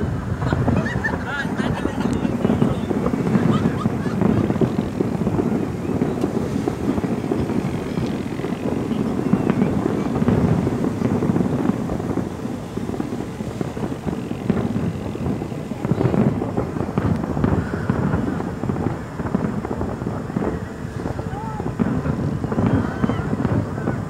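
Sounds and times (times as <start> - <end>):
fireworks bangs and crackle: 0.0 - 24.0.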